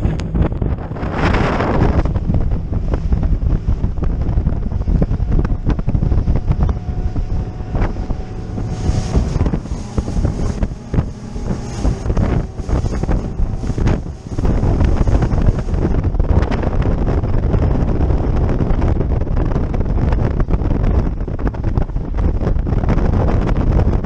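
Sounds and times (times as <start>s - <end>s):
boat engine: 0.0s - 24.0s
hull slapping waves: 0.0s - 24.0s
wind buffeting microphone: 0.0s - 24.0s.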